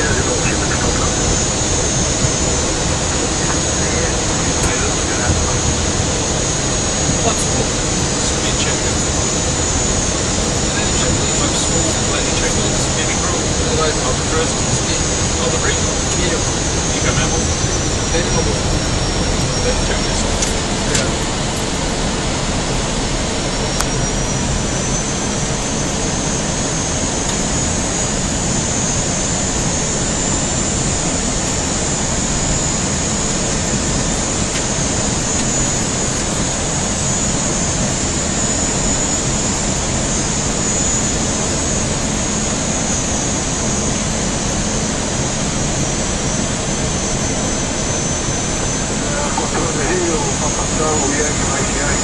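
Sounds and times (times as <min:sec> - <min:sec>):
airflow and engine rush: 0:00.0 - 0:52.0
high-pitched whine: 0:00.0 - 0:52.0.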